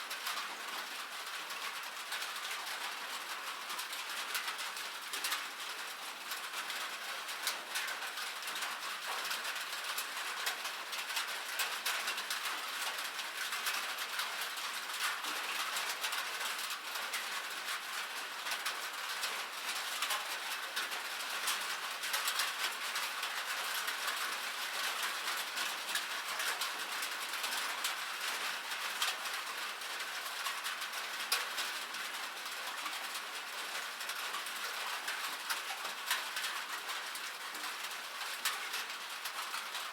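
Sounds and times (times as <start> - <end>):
rain pattering on a roof: 0.0 - 39.9.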